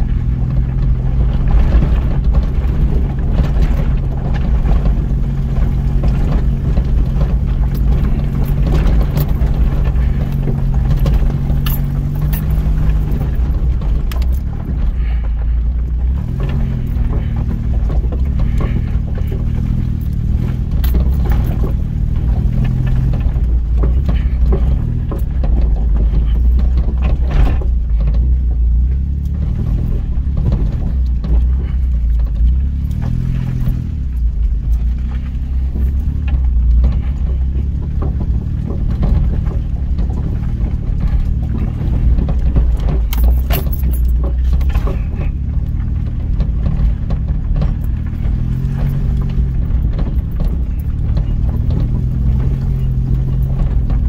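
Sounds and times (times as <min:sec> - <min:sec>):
car engine rumbling: 0:00.0 - 0:54.0
knocks and rattles from bumps: 0:00.0 - 0:54.0.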